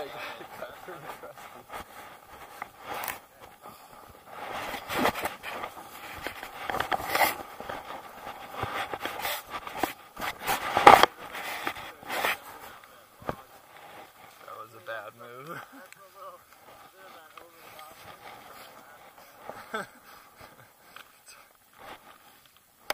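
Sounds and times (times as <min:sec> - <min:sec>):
ski gear scraping and rustling: 0:00.0 - 0:22.9.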